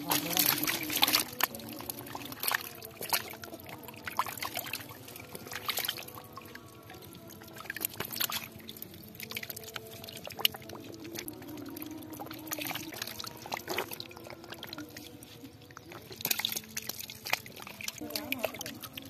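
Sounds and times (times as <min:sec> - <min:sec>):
fish thrashing in water: 0:00.0 - 0:19.0
sharp splashes: 0:00.0 - 0:19.0
water trickling and sloshing: 0:00.0 - 0:19.0.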